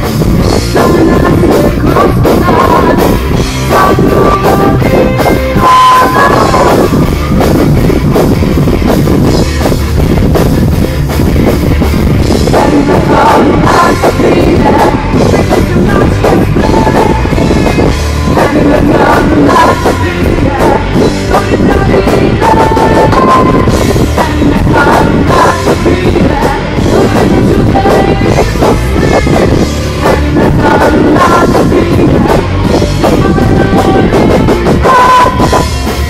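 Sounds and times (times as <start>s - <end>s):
distorted electric guitars: 0.0s - 36.0s
drum kit pounding: 0.0s - 36.0s
woman singing: 0.5s - 7.1s, 12.4s - 35.9s.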